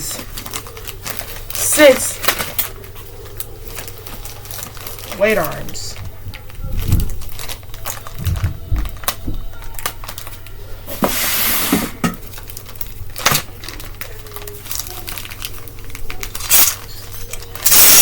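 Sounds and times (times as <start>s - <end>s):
packaging rustling: 0.0s - 11.4s, 12.2s - 18.0s.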